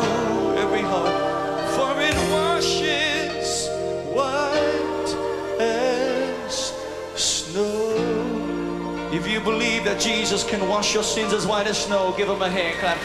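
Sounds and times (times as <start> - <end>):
man singing a hymn: 0.0 - 13.0
sustained chords: 0.0 - 13.0.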